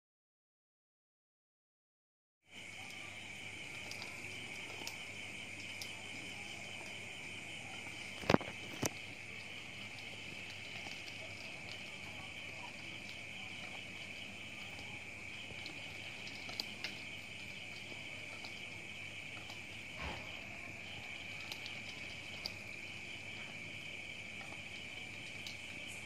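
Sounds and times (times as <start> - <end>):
night insects chirring: 2.5 - 26.0.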